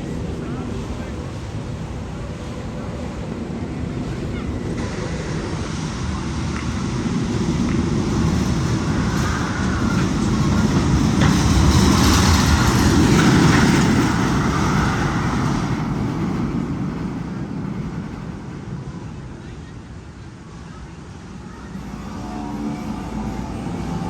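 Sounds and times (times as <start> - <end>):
roller coaster rumbling on track: 0.0 - 24.0.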